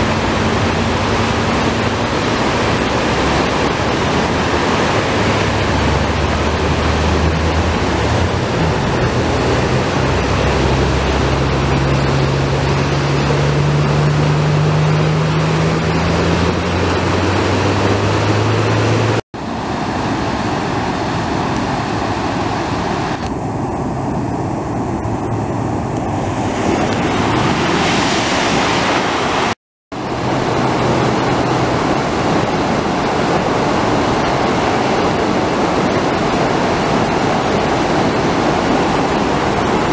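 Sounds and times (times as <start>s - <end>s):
low vehicle engine hum: 0.0s - 27.8s, 29.0s - 39.9s
flood water rushing through channel: 0.0s - 39.9s.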